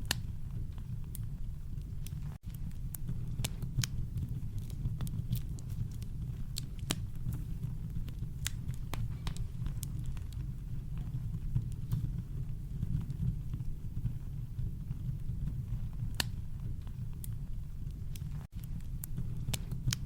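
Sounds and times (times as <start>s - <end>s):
campfire crackling with wood pops: 0.0s - 20.0s.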